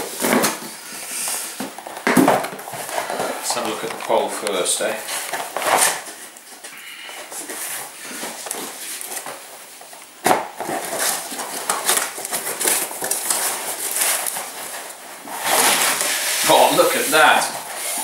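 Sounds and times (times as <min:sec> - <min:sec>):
packaging rustling: 0:00.0 - 0:18.0.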